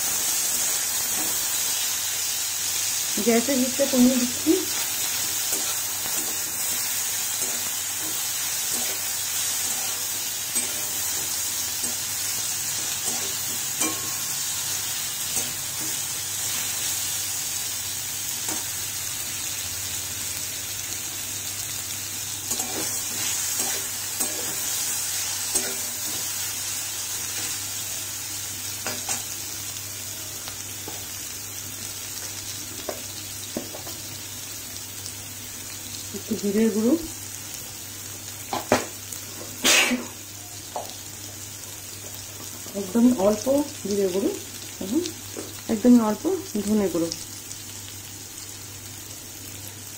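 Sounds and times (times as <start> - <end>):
vegetables sizzling in oil: 0.0 - 49.9.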